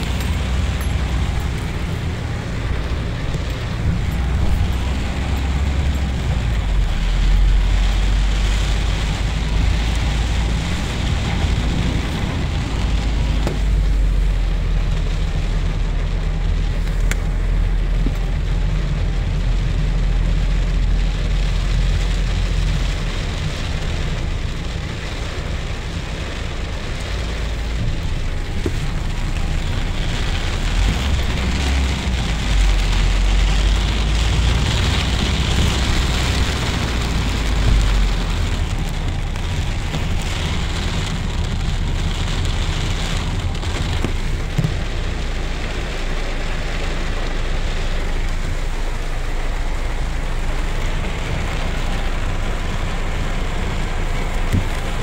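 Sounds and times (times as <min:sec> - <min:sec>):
car rumbling on road: 0:00.0 - 0:55.0
rain and wet tyres hissing: 0:00.0 - 0:55.0.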